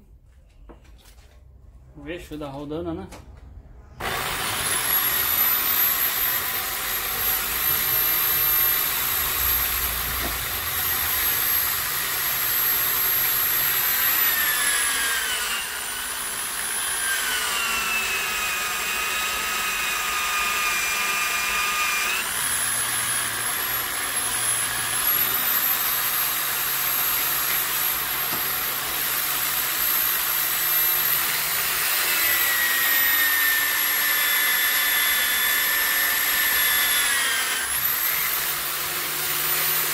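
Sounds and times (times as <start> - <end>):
drill bit cutting metal: 4.0 - 39.9
drill press motor whine: 4.0 - 39.9.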